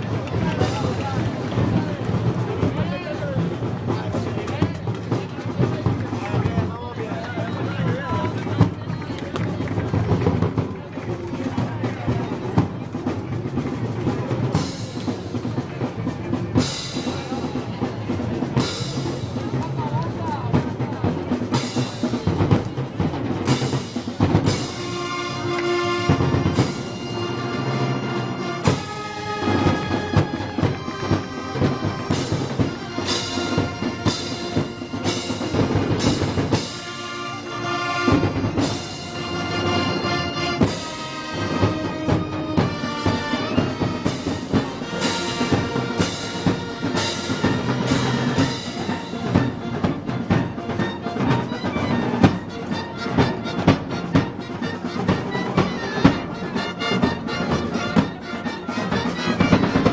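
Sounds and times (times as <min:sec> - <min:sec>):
brass band playing march: 0:00.0 - 0:59.9
drums: 0:00.0 - 0:59.9.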